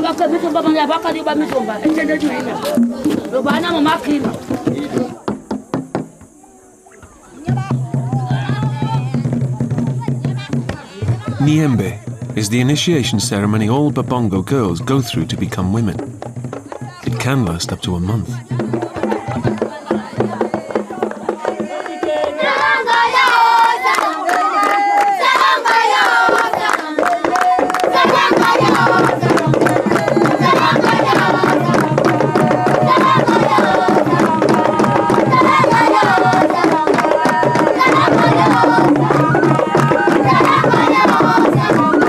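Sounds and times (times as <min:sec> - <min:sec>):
fast hand drumming: 0:00.0 - 0:06.4, 0:07.4 - 0:42.0
group singing and chanting: 0:00.0 - 0:42.0.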